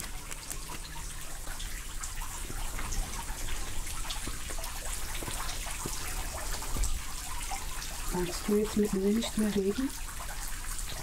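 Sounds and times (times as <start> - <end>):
water drips: 0.0 - 11.0
water trickling hiss: 0.0 - 11.0.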